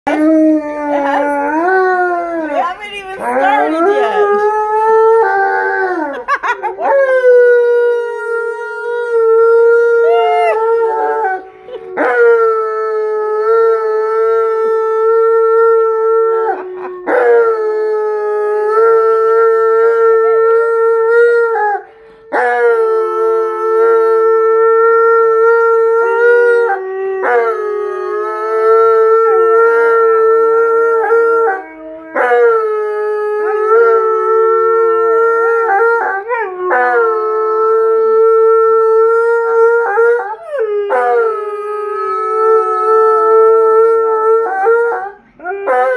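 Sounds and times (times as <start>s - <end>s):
dogs howling together: 0.1s - 45.9s.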